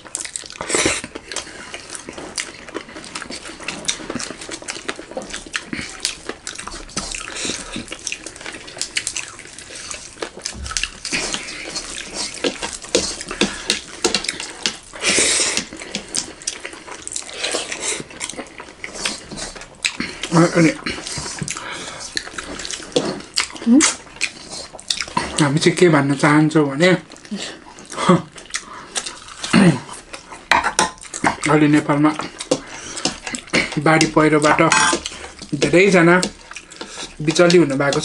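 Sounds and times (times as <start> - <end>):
people chewing and lip smacking: 0.0 - 38.0.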